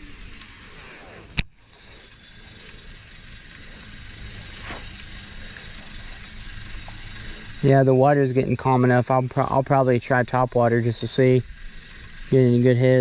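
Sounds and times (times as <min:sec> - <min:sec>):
low background hiss and rumble: 0:00.0 - 0:13.0.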